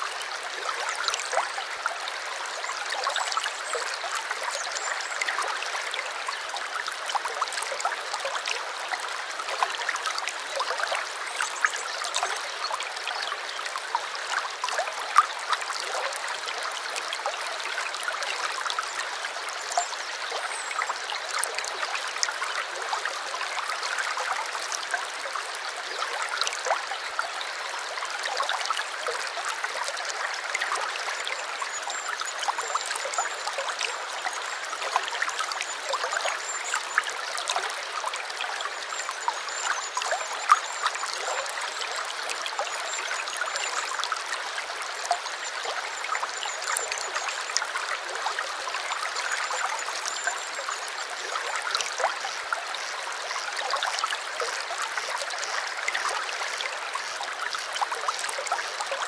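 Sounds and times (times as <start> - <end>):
brook trickling and babbling: 0.0 - 59.0.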